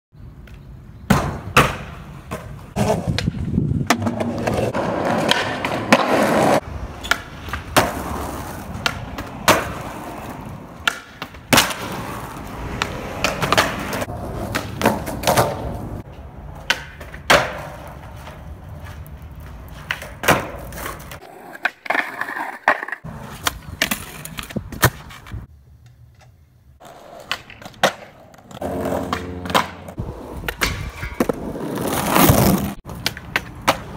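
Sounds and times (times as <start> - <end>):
skateboard wheels rolling on concrete: 0.2 - 33.9
skateboard clacking: 0.4 - 33.9
skateboard grinding on ledges: 1.1 - 25.4, 26.8 - 33.9.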